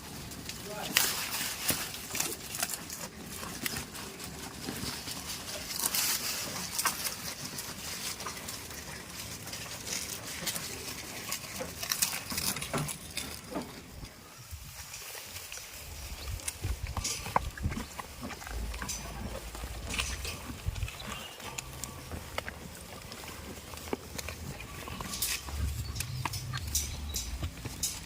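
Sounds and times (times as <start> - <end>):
goats moving about: 0.0 - 28.0.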